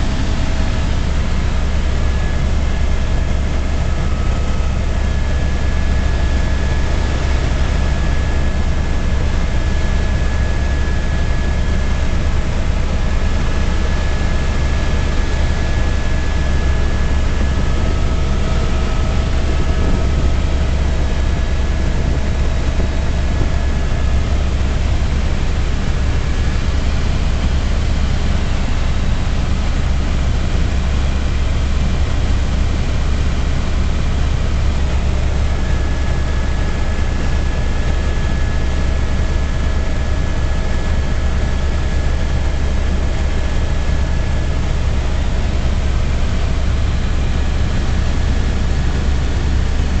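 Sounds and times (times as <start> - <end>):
helicopter cabin drone: 0.0 - 50.0.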